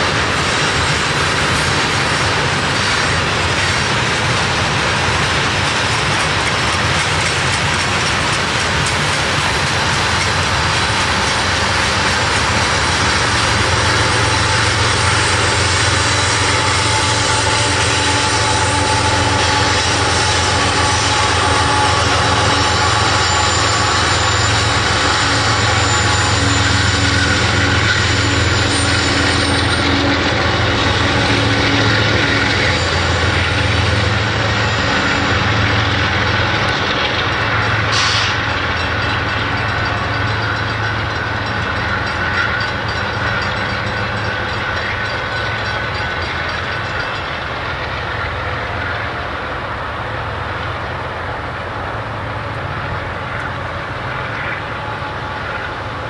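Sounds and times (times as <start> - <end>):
diesel locomotive engines humming: 0.0 - 56.0
train wheels clicking on rails: 0.0 - 56.0.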